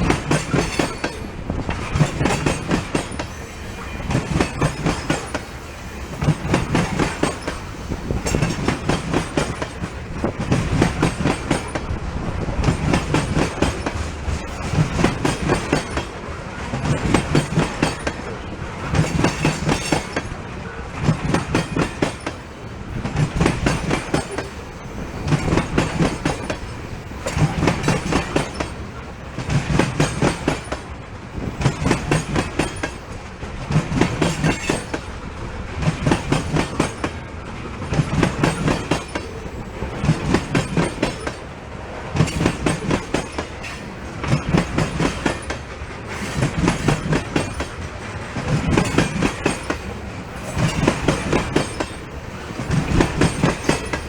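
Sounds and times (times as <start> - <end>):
train wheels clacking: 0.0 - 54.0.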